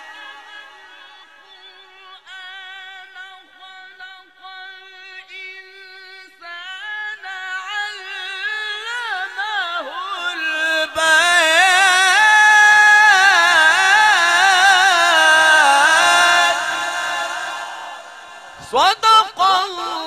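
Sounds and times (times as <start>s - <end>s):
man chanting melodically: 1.4s - 20.0s.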